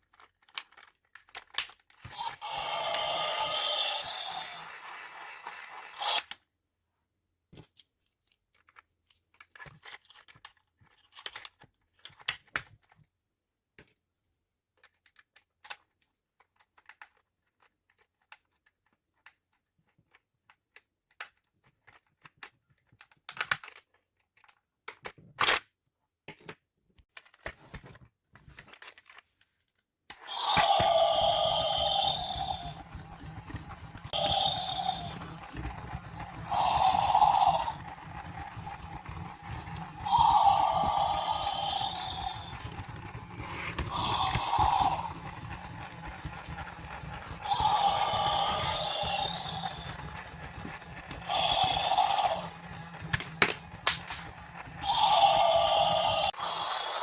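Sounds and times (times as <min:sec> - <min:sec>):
plastic toy parts clicking: 0:00.0 - 0:05.0, 0:05.7 - 0:06.4, 0:07.6 - 0:13.0, 0:14.8 - 0:25.7, 0:33.4 - 0:57.0.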